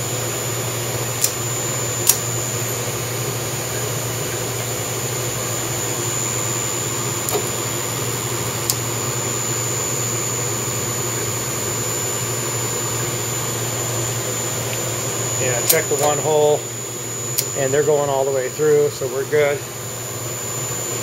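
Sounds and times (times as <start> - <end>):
mill spindle hum with whine: 0.0 - 21.0.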